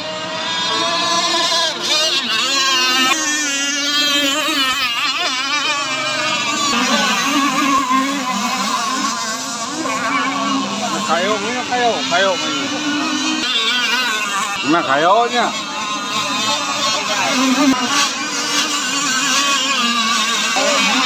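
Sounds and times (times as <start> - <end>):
model powerboat engines whining: 0.0 - 21.0.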